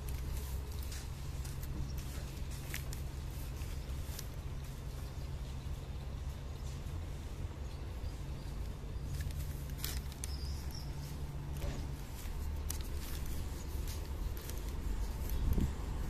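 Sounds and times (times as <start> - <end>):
low steady street hum: 0.0 - 16.0.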